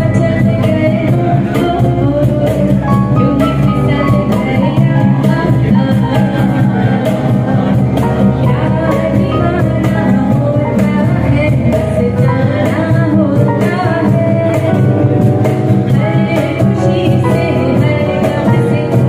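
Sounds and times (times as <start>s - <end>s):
woman singing into microphone: 0.0s - 19.0s.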